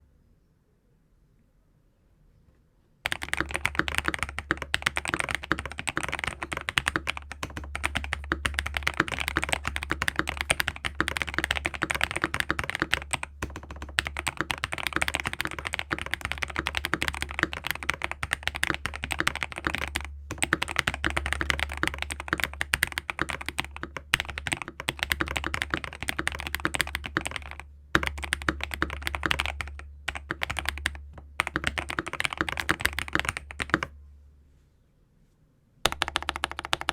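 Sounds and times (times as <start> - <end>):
fast typing on mechanical keyboard: 3.1 - 33.9, 35.9 - 36.9.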